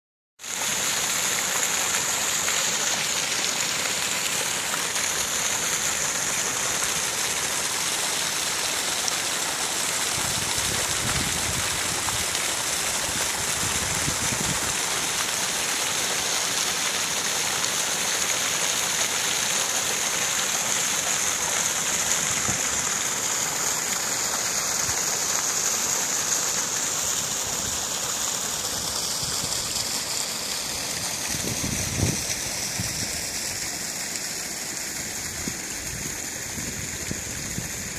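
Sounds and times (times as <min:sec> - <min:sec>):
waterfall rushing splash: 0:00.4 - 0:37.9.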